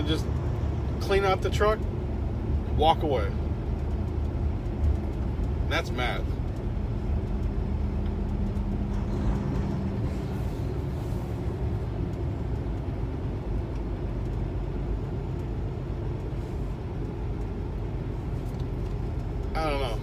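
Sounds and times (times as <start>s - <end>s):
truck diesel engine rumble: 0.0s - 20.0s.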